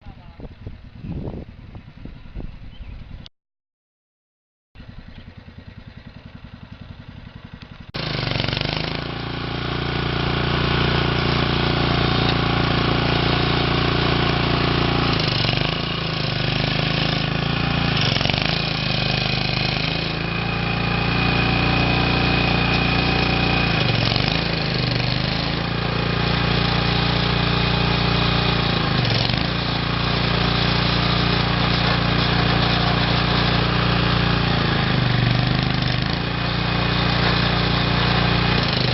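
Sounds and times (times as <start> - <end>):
tractor engine running: 4.8 - 38.9.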